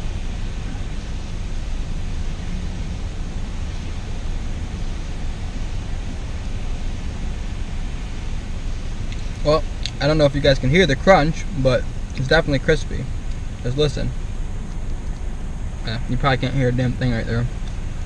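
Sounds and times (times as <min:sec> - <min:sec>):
blower fan hiss: 0:00.0 - 0:18.0
low engine rumble: 0:00.0 - 0:18.0.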